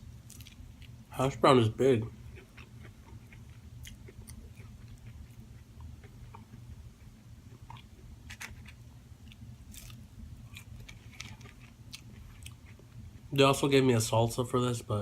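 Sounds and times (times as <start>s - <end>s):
low steady hum: 0.0s - 15.0s
person chewing food: 0.2s - 1.1s, 2.1s - 13.3s.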